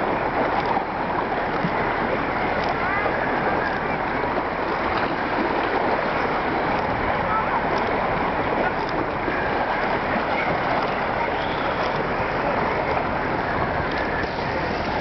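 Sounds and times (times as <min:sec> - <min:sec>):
waves lapping against rocks: 0:00.0 - 0:15.0.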